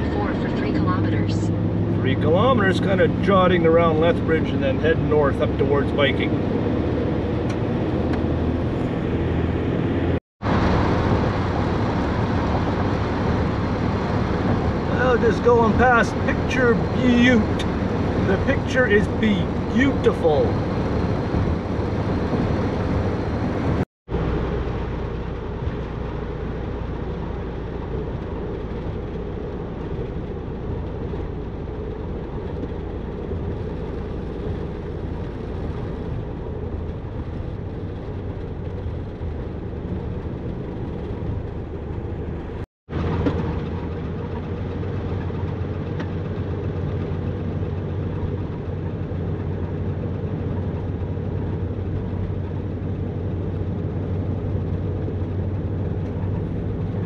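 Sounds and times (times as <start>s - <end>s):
engine and road noise: 0.0s - 57.0s.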